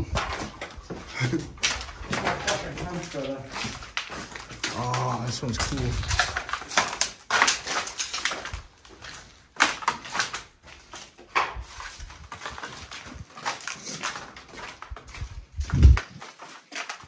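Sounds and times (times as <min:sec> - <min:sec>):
footsteps on gritty floor: 0:00.0 - 0:17.0.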